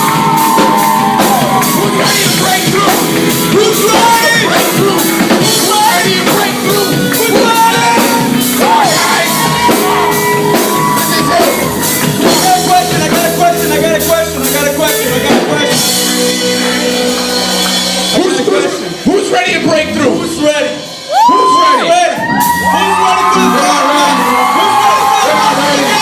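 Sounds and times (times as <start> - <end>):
band music with singing: 0.0 - 26.0
steady drum beat: 0.0 - 26.0.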